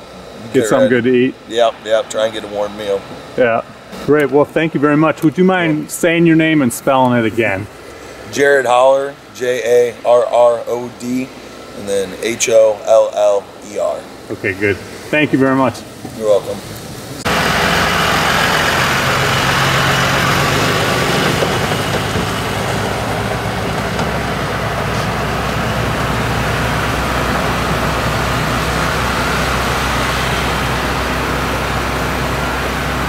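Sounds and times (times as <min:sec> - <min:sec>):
truck engines idling: 0:00.0 - 0:33.0.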